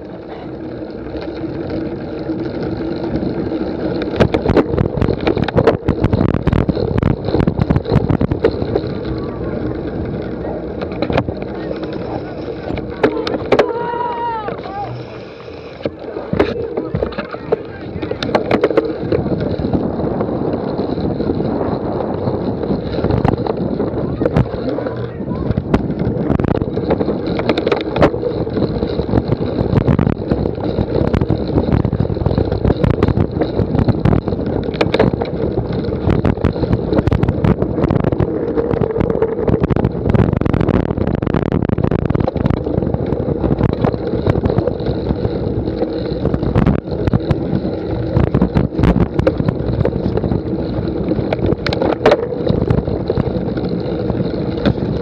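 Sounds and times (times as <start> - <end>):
bike rattling over rough ground: 0.0 - 55.0
wind noise on microphone: 0.0 - 55.0
sharp knocks and clicks: 3.9 - 9.1, 9.8 - 13.7, 15.8 - 21.4, 22.7 - 55.0.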